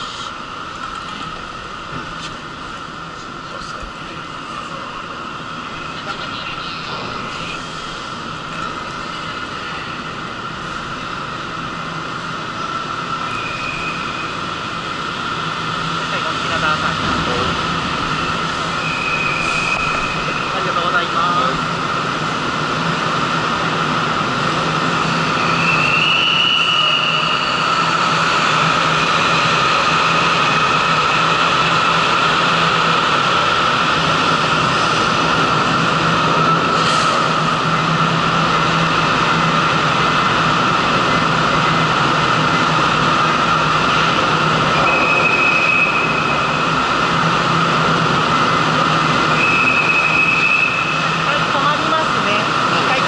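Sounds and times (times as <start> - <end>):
ship machinery drone: 0.0 - 53.0.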